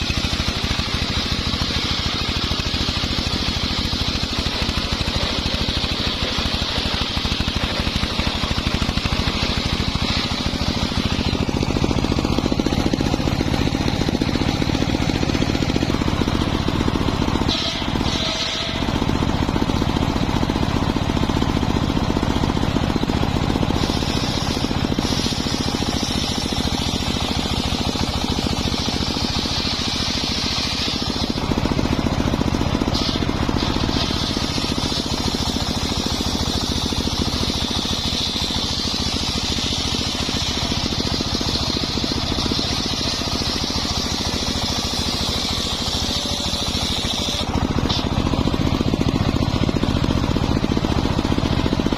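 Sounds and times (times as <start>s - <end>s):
circular saw running: 0.0s - 51.9s
saw cutting wood: 0.0s - 51.9s.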